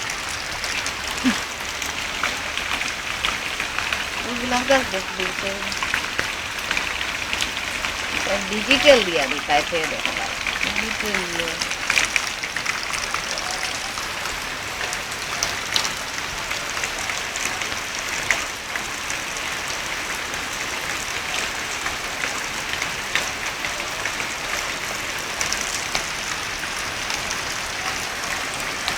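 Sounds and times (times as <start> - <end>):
rain pattering: 0.0 - 28.9.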